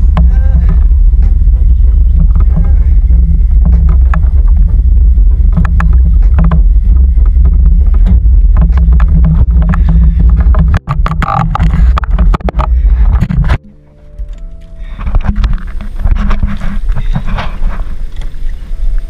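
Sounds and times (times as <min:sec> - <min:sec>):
wind buffeting microphone: 0:00.0 - 0:13.6, 0:14.8 - 0:19.0
sharp clicks and knocks: 0:00.0 - 0:18.4
boat engine rumbling: 0:00.0 - 0:19.0.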